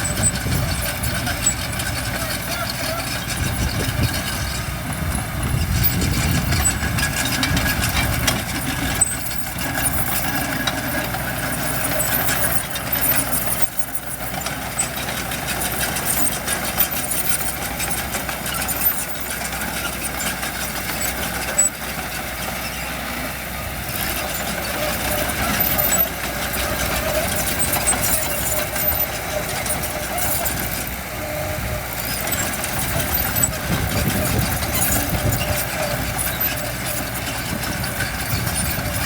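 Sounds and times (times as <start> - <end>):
diesel machinery engines running: 0.0 - 39.0.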